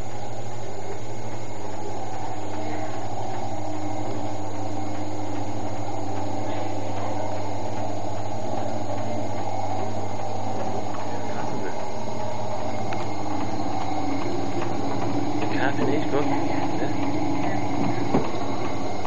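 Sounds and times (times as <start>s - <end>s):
coffee grinder whirring: 0.0s - 19.0s.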